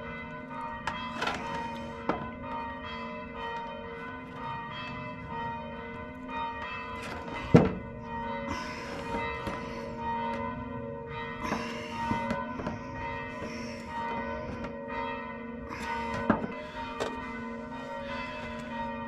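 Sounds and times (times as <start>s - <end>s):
bell-like ringing: 0.0s - 19.0s.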